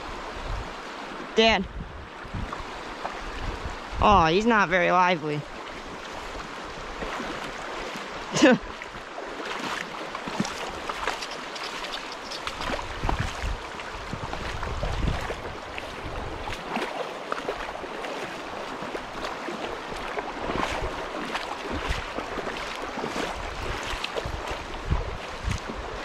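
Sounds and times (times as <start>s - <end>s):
wind rumble on microphone: 0.0s - 9.1s, 10.2s - 26.0s
river water rushing: 0.0s - 26.0s.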